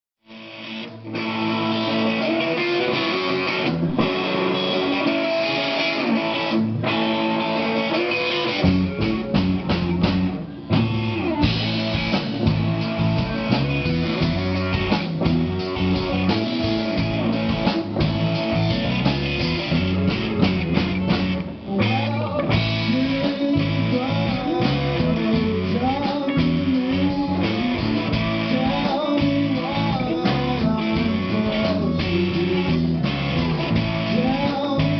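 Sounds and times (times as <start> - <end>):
drums: 0.2 - 34.9
guitar: 0.2 - 34.9
band playing live: 0.3 - 34.9.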